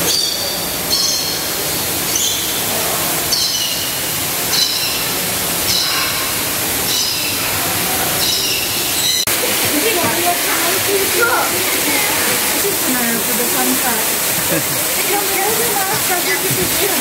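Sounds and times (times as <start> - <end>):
rushing hiss: 1.5 - 17.0.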